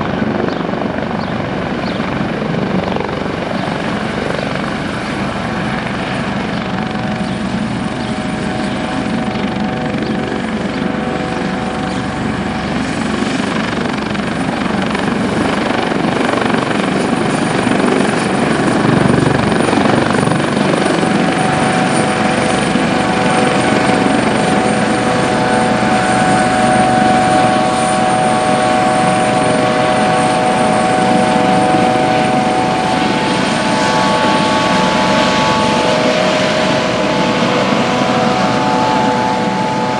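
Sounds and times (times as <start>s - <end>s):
helicopter flying close by: 0.0s - 39.9s.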